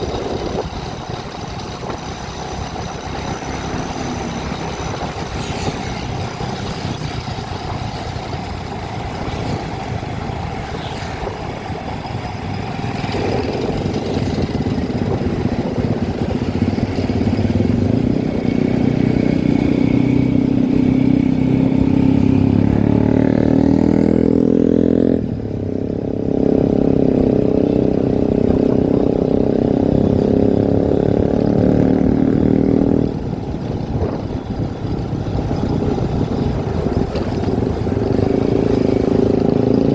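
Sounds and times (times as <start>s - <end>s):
vehicle engine: 0.0s - 39.9s.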